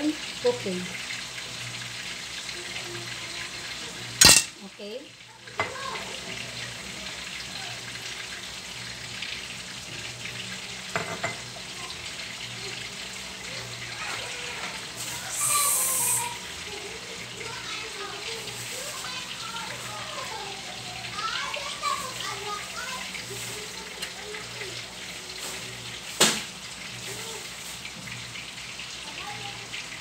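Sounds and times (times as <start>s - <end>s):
meat sizzling in a pan: 0.0s - 30.0s.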